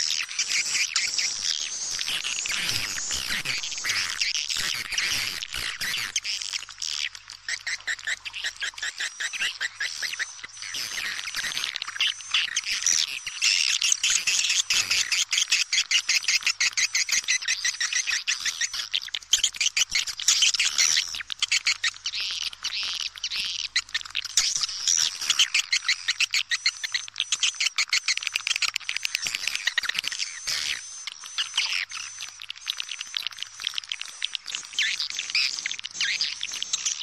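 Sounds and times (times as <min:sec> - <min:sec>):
swiftlets chirping and twittering: 0:00.0 - 0:37.0.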